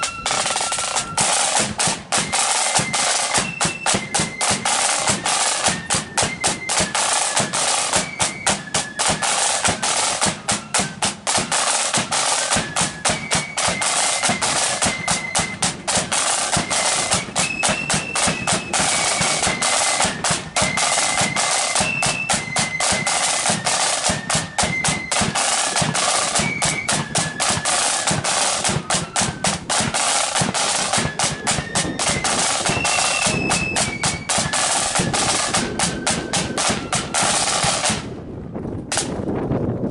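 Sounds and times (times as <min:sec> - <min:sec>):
high flute melody: 0:00.0 - 0:38.0
side drums beating: 0:00.0 - 0:38.1.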